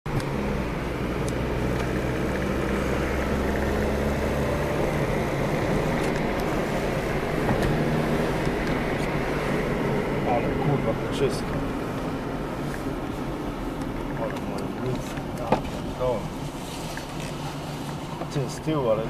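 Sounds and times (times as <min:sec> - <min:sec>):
car engine drone: 0:00.1 - 0:19.0
tyre and road noise: 0:00.1 - 0:19.0.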